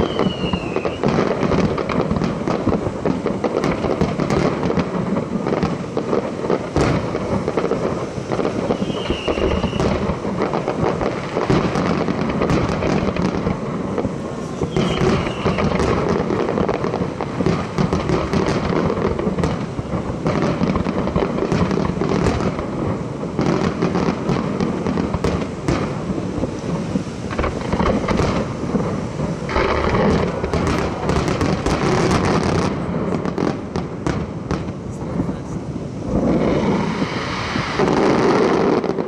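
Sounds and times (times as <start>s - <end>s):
fireworks booming and crackling: 0.0s - 39.0s.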